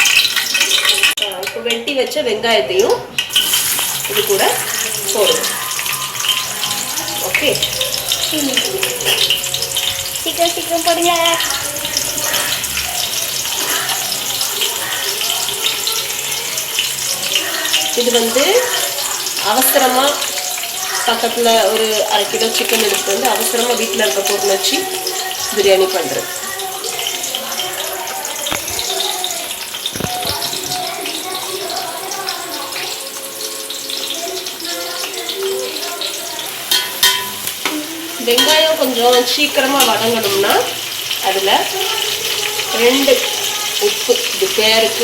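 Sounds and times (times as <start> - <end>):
onions sizzling in hot oil: 0.0 - 45.0.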